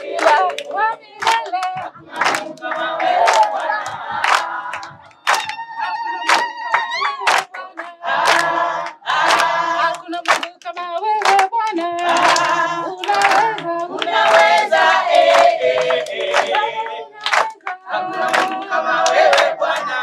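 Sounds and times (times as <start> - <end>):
choir singing: 0.0 - 10.3, 11.8 - 20.0
hand claps: 0.0 - 20.0.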